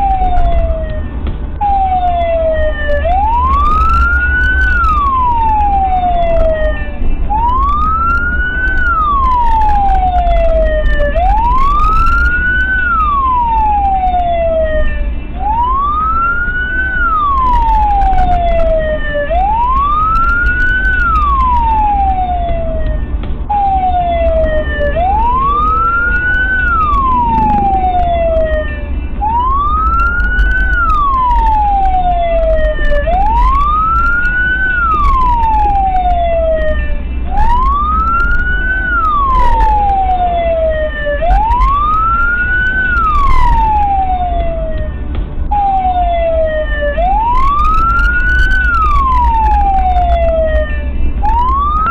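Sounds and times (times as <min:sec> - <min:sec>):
emergency siren wailing: 0:00.0 - 0:51.9
engine and road rumble: 0:00.0 - 0:51.9.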